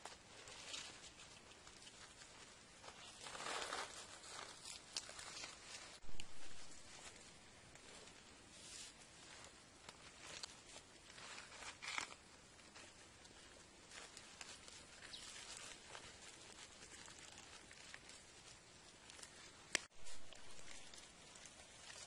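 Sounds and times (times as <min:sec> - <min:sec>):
leaves and grass rustling: 0:00.0 - 0:22.0.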